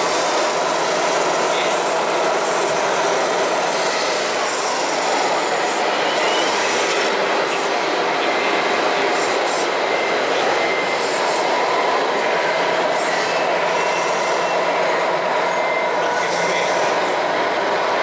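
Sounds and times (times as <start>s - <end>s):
busy indoor hall din: 0.0s - 18.0s.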